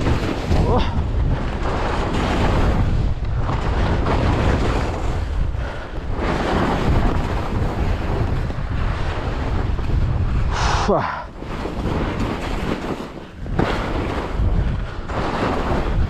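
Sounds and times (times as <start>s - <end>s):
wind buffeting microphone: 0.0s - 16.0s
skis scraping across snow: 1.1s - 16.0s.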